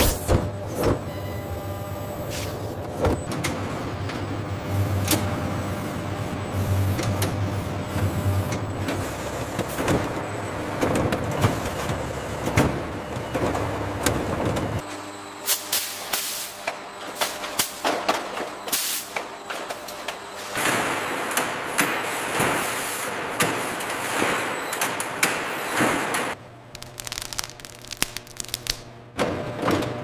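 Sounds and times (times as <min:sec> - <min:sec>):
machinery motor hum: 0:00.0 - 0:27.1.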